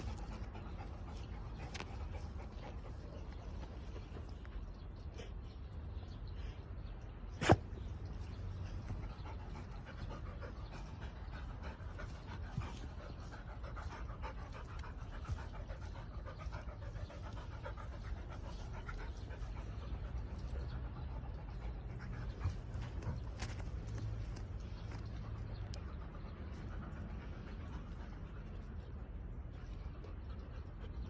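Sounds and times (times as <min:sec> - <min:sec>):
dog panting: 0:00.0 - 0:05.6, 0:07.6 - 0:31.0.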